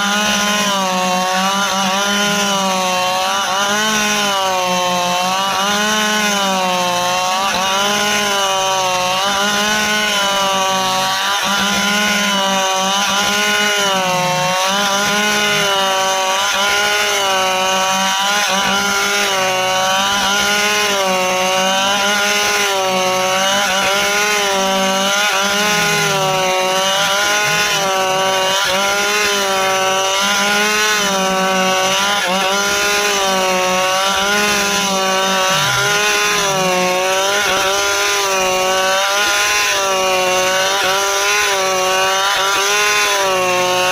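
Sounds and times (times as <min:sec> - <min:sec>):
chainsaw cutting hardwood: 0:00.0 - 0:43.9.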